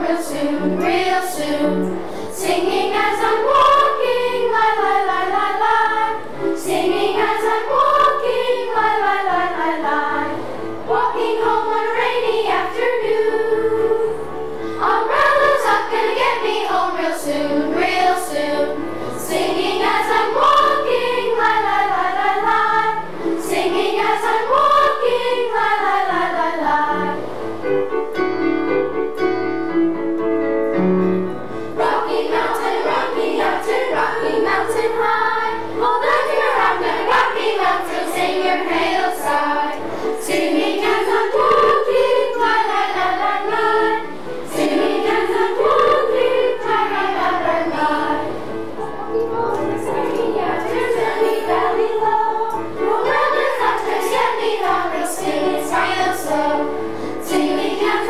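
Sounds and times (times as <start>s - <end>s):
children's chorus singing: 0.0s - 27.7s, 31.7s - 58.0s.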